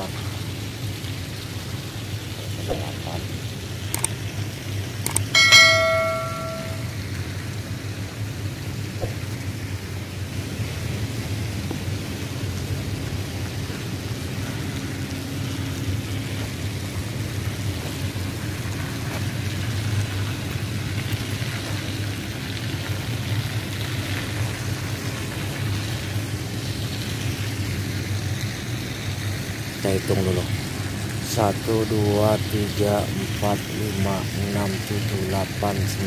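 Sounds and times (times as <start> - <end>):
constant hiss: 0.0 - 36.0
low machinery hum: 0.0 - 36.0.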